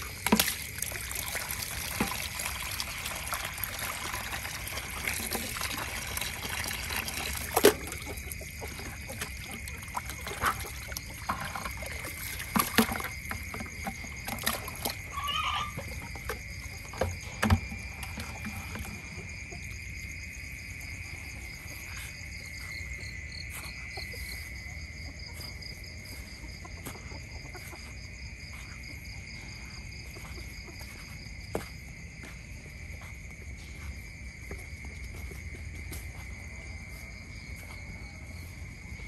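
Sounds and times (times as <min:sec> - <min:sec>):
insects droning high-pitched: 0:00.0 - 0:39.0
pulsing insect trill: 0:00.0 - 0:39.0.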